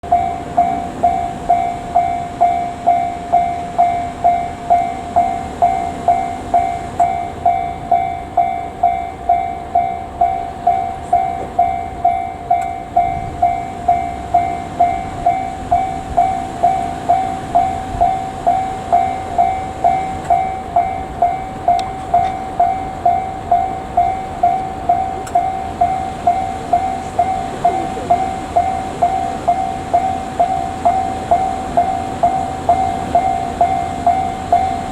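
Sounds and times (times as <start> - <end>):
level-crossing warning bell ringing: 0.0 - 34.9.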